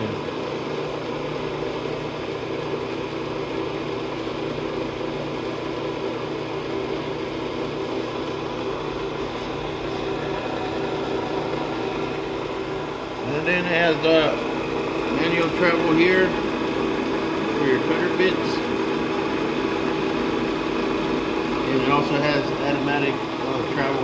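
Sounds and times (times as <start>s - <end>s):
brake lathe motor humming: 0.0s - 24.0s.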